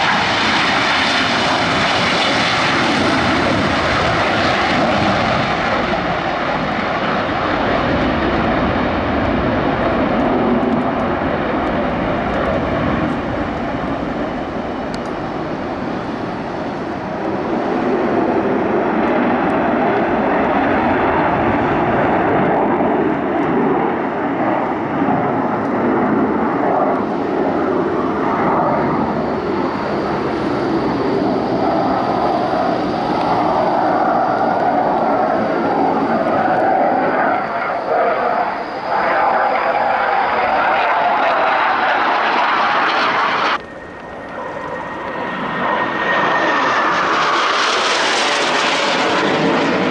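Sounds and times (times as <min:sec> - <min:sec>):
jet aircraft roaring: 0:00.0 - 0:49.9.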